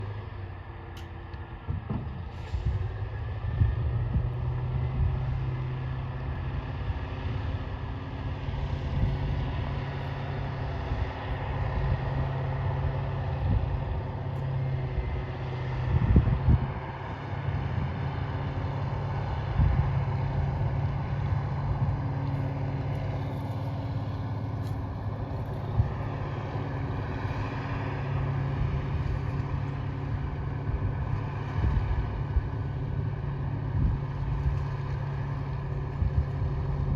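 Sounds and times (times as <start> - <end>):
diesel engine running under load: 0.0 - 36.9.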